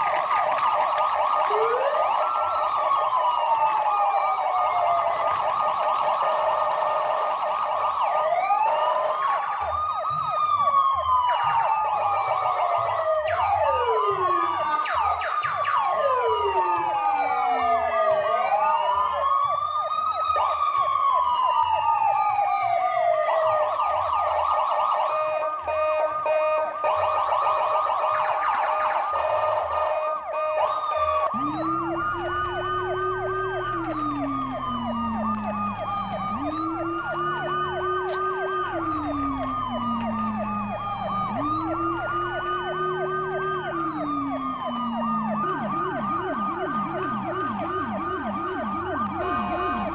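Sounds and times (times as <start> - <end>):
fast warbling siren: 0.0 - 49.9
lower siren wail: 0.0 - 49.9
rising and falling siren wails: 0.0 - 49.9.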